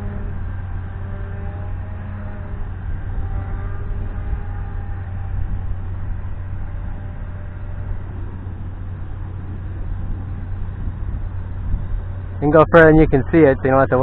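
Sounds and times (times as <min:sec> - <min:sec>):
faint model airplane motor: 0:00.0 - 0:14.0
wind buffeting microphone: 0:00.0 - 0:14.0.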